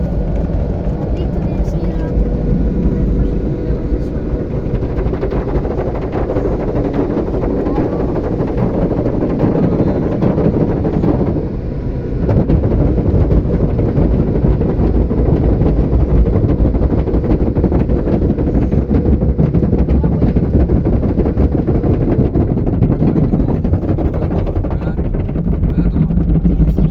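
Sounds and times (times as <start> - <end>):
blower dryer running: 0.0 - 26.9.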